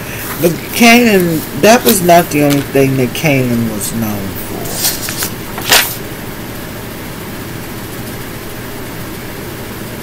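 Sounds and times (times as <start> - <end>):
room noise hiss and rumble: 0.0 - 10.0.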